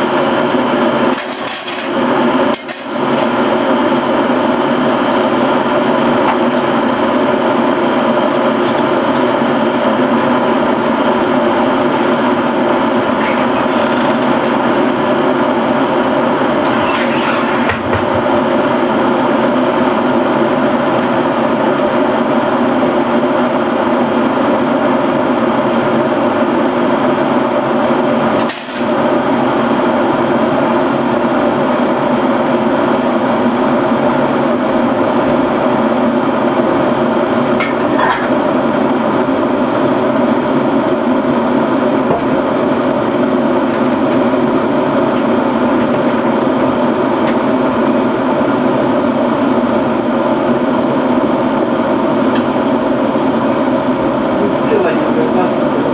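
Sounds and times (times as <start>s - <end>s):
electric kettle heating water: 0.0s - 55.9s.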